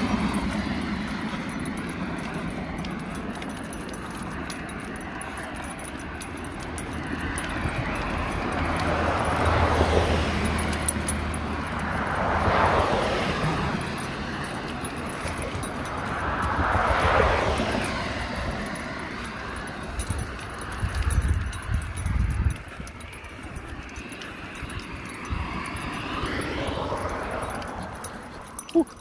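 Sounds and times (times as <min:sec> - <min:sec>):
traffic noise: 0:00.0 - 0:29.0.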